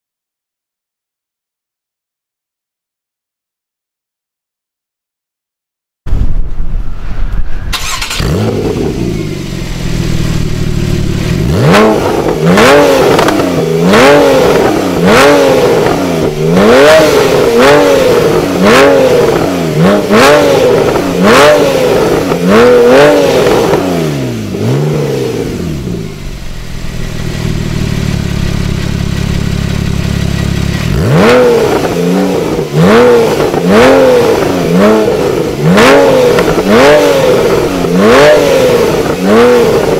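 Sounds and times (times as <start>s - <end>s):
exhaust snap: 7.2s - 39.9s
car engine idling: 7.7s - 39.9s
car engine revving in blips: 7.7s - 39.9s.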